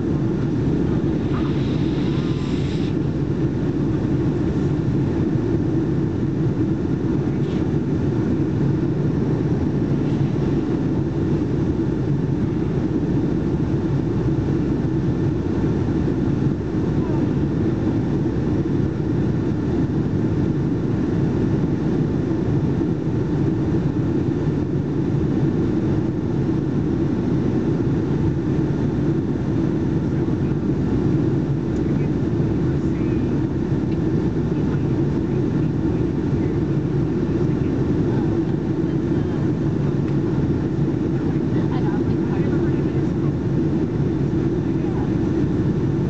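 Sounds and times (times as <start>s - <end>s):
airplane cabin rumble: 0.0s - 46.0s.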